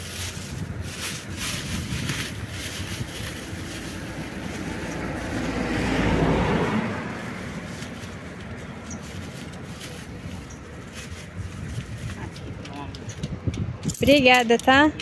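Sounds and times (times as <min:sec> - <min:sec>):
vehicle passing close by: 0:00.0 - 0:12.6
traffic rumble: 0:00.0 - 0:15.0.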